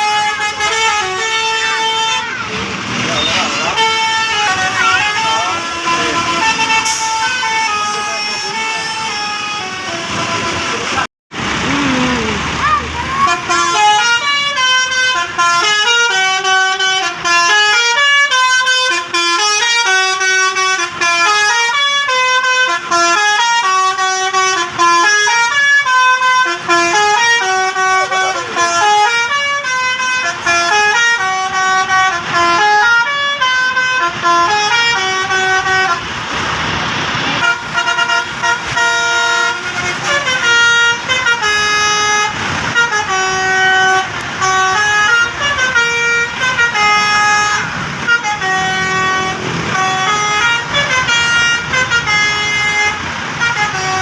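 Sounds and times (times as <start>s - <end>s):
multi-tone air horn tune: 0.0s - 11.1s, 13.2s - 36.1s, 37.4s - 54.0s.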